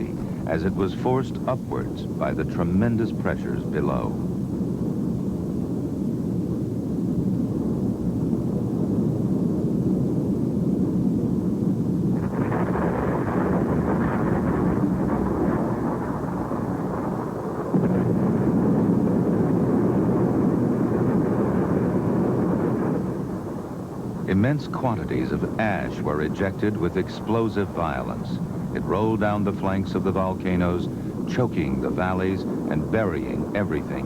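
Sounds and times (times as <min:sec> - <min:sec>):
volcanic eruption rumbling: 0:00.0 - 0:34.0.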